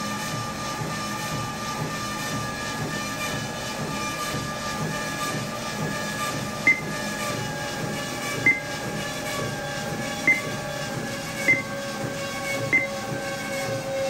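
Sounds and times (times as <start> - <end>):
treadmill motor and belt whine: 0.0 - 14.0.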